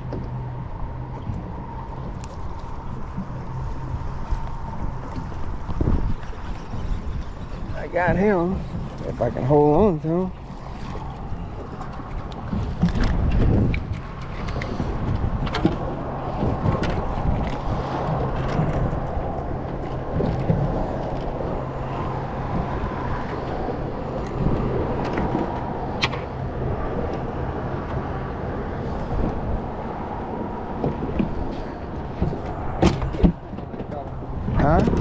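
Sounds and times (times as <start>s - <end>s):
low motor hum: 0.0s - 35.0s
water noise: 0.0s - 35.0s
wind: 0.0s - 35.0s.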